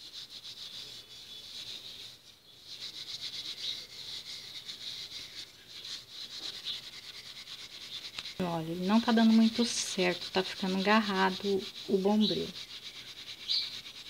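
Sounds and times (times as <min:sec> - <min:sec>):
steel wool scrubbing metal: 0:00.0 - 0:14.0.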